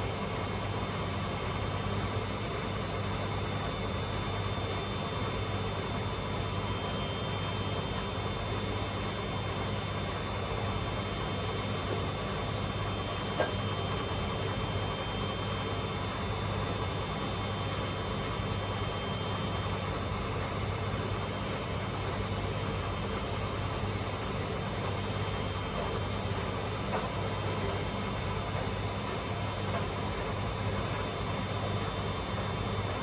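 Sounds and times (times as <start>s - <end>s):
washing machines spinning: 0.0s - 33.0s.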